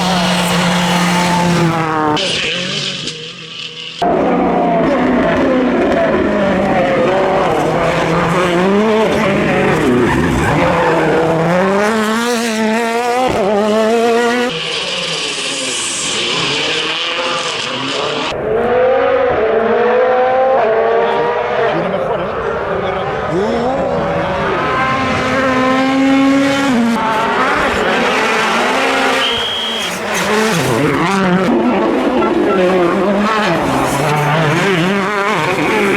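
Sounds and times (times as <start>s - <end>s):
tyres skidding: 0.0s - 2.3s, 6.1s - 19.8s, 20.8s - 35.9s
rally car engine revving: 0.0s - 35.9s.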